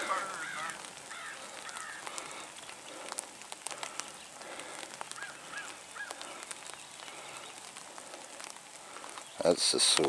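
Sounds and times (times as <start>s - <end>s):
bird calling: 0.0s - 10.0s
rustling in grass: 0.0s - 10.0s.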